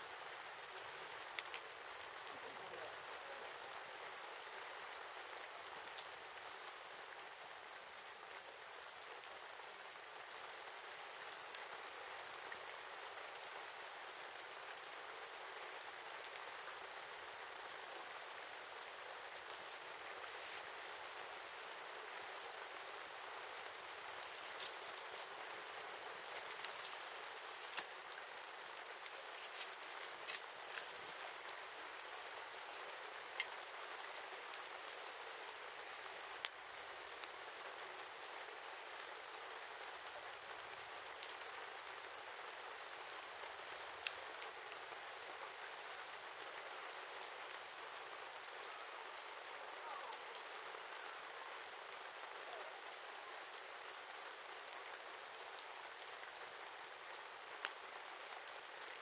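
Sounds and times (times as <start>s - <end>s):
campfire hissing: 0.0s - 59.0s
fire crackling and popping: 0.1s - 59.0s.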